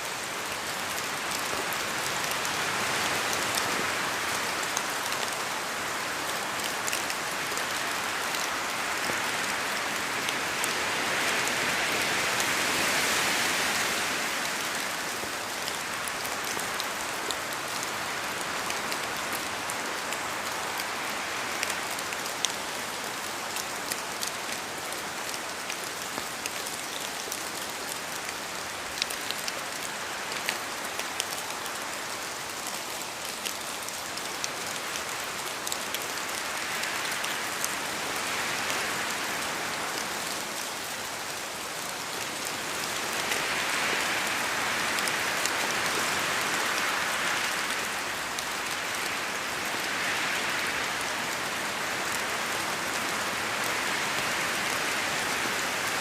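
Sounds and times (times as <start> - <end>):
steady rain in forest: 0.0 - 56.0.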